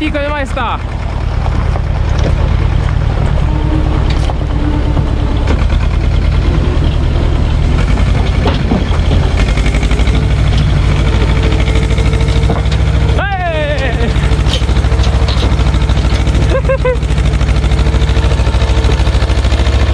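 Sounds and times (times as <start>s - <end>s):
tractor diesel engine under load: 0.0s - 19.9s
trailer knocking over gravel: 1.2s - 19.9s.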